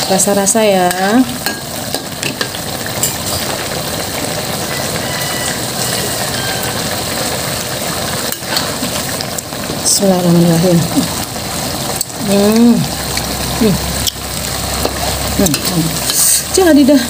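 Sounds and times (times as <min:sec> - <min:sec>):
sauce sizzling and bubbling in a wok: 0:00.0 - 0:17.0.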